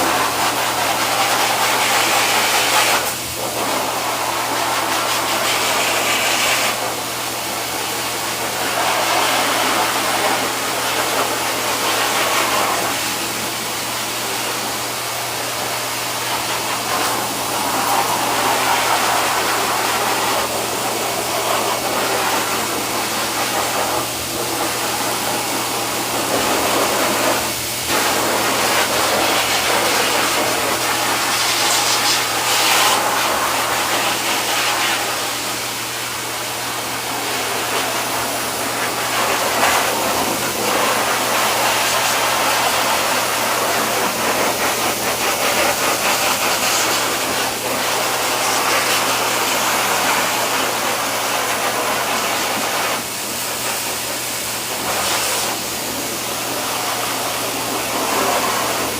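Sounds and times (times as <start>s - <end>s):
pet dryer blowing air: 0.0s - 58.9s.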